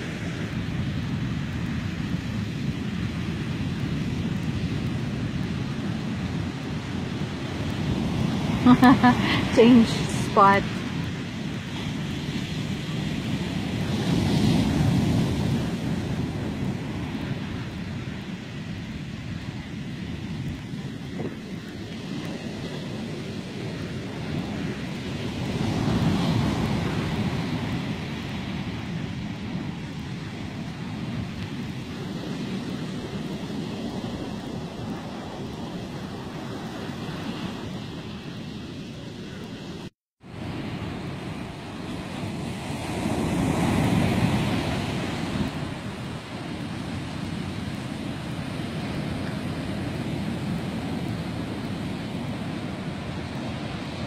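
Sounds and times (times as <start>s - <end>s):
ocean surf on sandy beach: 0.0s - 54.0s
wind rumbling on microphone: 0.0s - 54.0s.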